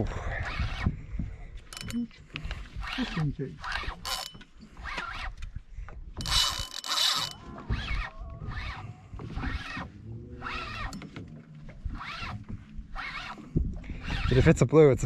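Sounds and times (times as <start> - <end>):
fishing reel being cranked: 0.2 - 1.0, 1.7 - 5.6, 6.2 - 14.7
reel line buzzing: 0.4 - 1.1, 1.7 - 5.6, 6.2 - 14.6.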